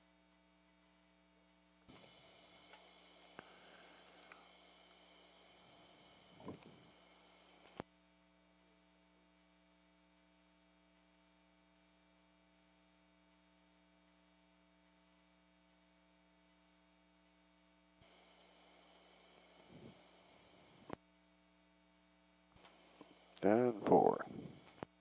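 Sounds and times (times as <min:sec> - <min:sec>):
background hiss: 0:00.0 - 0:25.0
electrical mains hum: 0:00.0 - 0:25.0.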